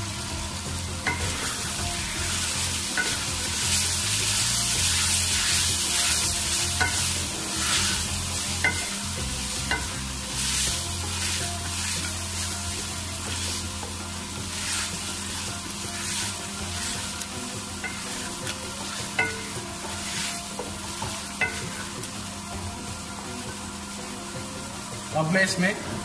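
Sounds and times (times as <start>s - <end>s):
vegetables sizzling in a pot: 0.0s - 26.0s.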